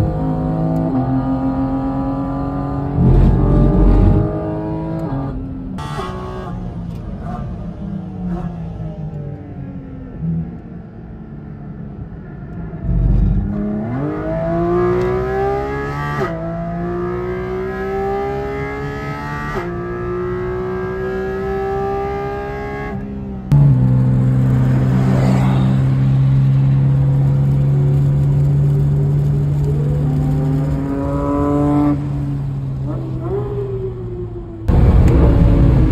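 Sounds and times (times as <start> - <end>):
sports car engine accelerating: 0.0 - 10.8, 12.8 - 35.9.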